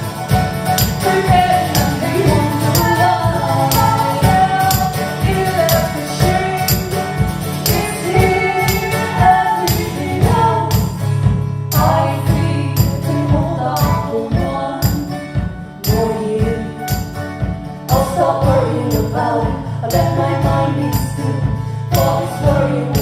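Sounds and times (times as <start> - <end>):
acoustic folk music: 0.0 - 23.0
tambourine jingling: 0.0 - 23.0.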